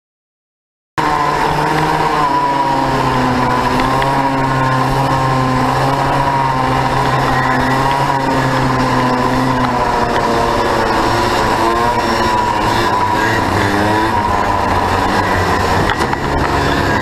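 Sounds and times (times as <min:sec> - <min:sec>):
go-kart engine running hard: 0:01.0 - 0:17.0.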